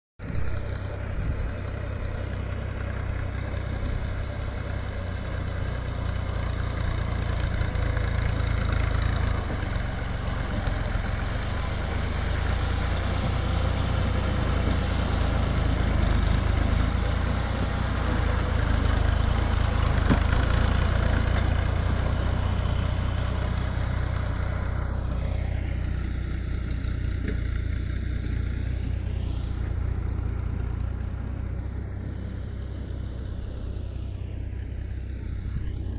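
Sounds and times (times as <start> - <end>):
tractor engine droning: 0.2 - 35.9.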